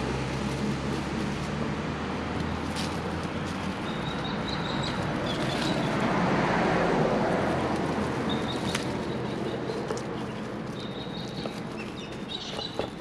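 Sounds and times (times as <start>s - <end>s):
vehicle passing: 0.0s - 13.0s.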